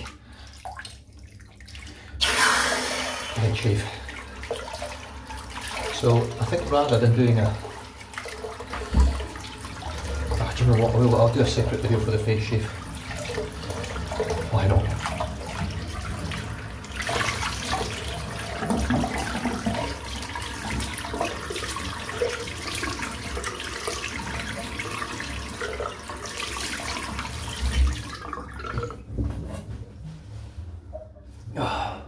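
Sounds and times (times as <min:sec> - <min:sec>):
tap water splashing into sink: 0:00.0 - 0:29.4.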